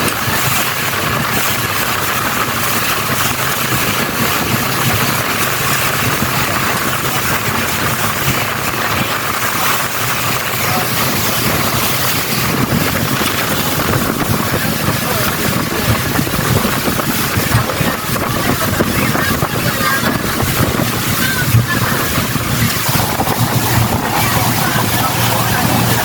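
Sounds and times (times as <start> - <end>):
motorboat engine running: 0.0 - 26.0
rush of wind and water: 0.0 - 26.0.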